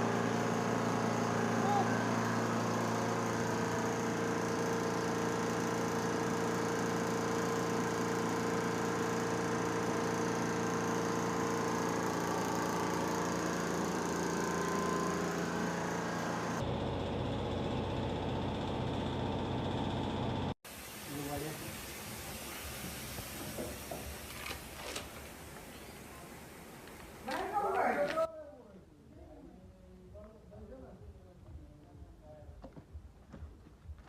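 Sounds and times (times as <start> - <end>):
machine motor humming: 0.0 - 28.3.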